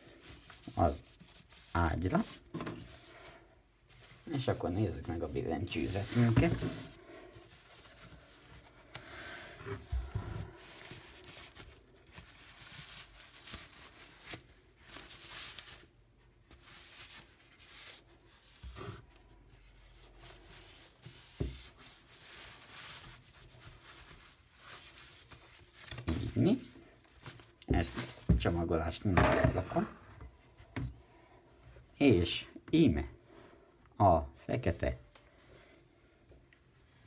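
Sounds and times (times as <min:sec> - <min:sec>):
plastic bag rustling: 0:00.0 - 0:30.0.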